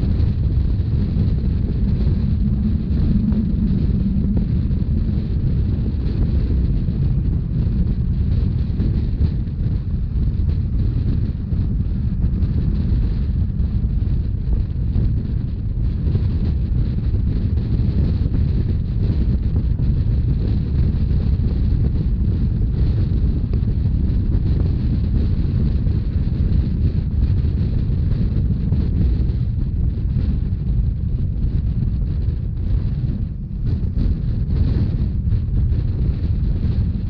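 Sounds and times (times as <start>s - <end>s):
train running rumble: 0.0s - 37.0s
wind buffeting microphone: 0.0s - 37.0s.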